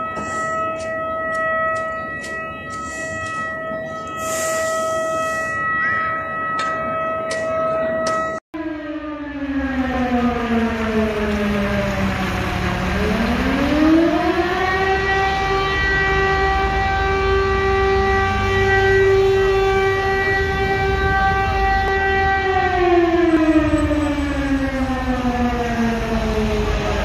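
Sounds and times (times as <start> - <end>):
civil defence siren wailing: 0.0 - 27.0.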